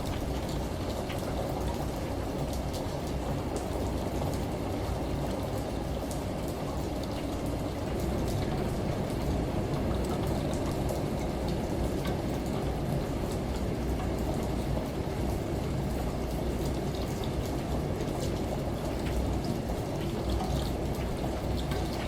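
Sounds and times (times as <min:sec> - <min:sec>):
washing machine rumble: 0:00.0 - 0:22.0.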